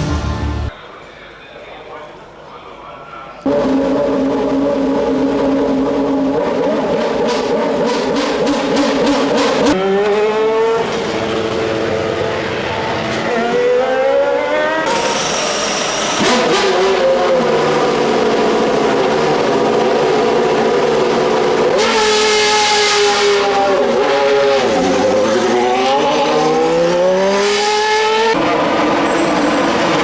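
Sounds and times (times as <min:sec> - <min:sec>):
racing cars at high revs: 0:03.5 - 0:30.0.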